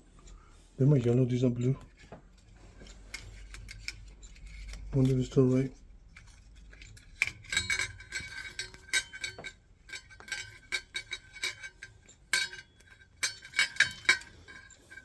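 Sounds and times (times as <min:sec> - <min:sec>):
metallic clicks and clinks: 0:01.6 - 0:15.0.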